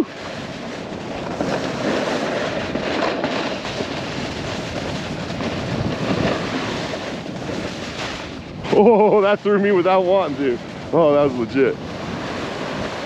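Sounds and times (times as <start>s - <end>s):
snowboard scraping over snow: 0.0s - 13.0s.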